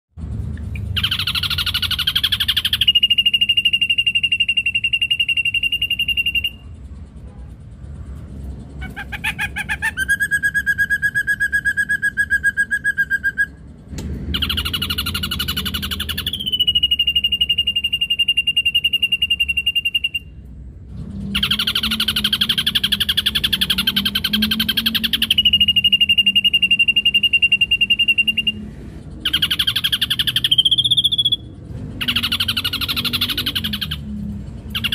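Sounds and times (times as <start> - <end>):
bird trilling and whistling: 0.7 - 6.8, 8.7 - 20.6, 21.2 - 34.9.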